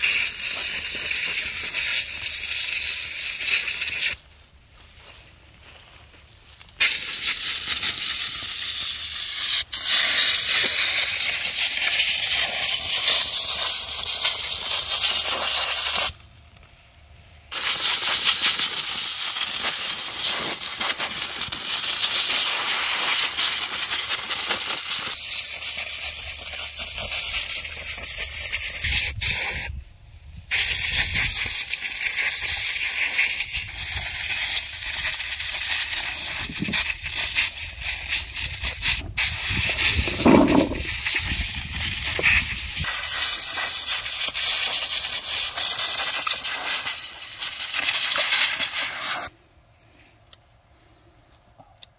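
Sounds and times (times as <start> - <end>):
compressed air hissing: 0.0 - 4.2, 6.8 - 16.2, 17.5 - 49.3.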